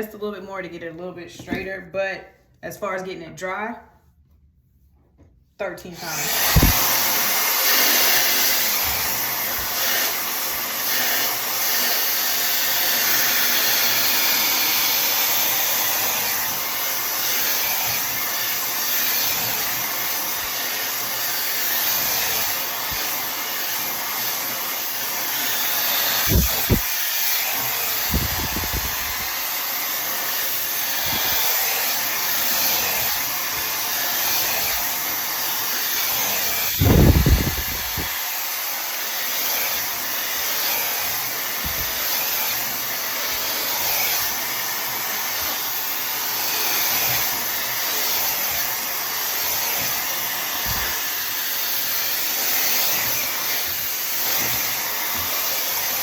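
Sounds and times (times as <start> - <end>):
blow dryer running: 5.7 - 56.0.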